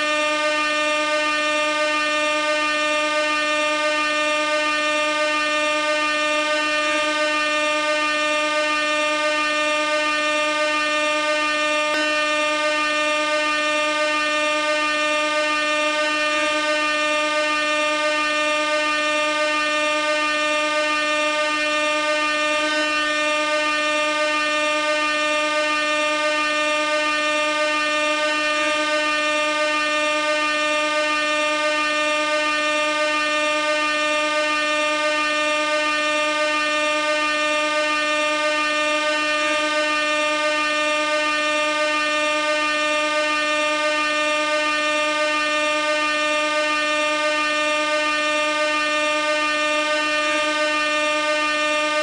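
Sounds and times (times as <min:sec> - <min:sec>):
air horn blast: 0:00.0 - 0:52.0.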